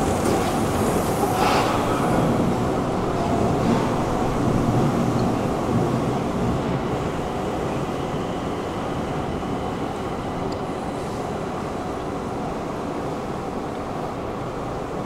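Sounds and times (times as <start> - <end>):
metro station rumble and hum: 0.0 - 15.0.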